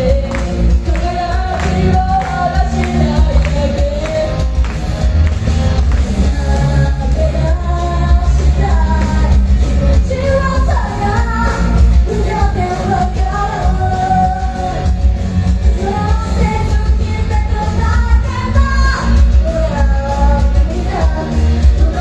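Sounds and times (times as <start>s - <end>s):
pop-rock band playing: 0.0s - 22.0s
vocalist singing: 0.0s - 22.0s.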